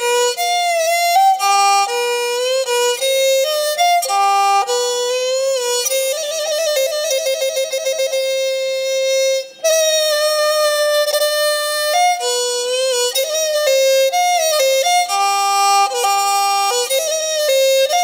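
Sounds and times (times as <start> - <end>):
bowed string slow melody: 0.0 - 18.0.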